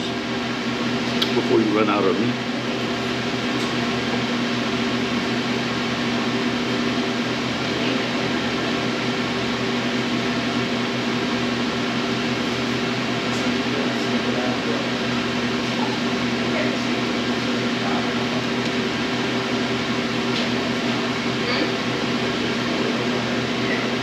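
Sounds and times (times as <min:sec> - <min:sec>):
fan air rush: 0:00.0 - 0:24.0
low electric hum: 0:00.0 - 0:24.0.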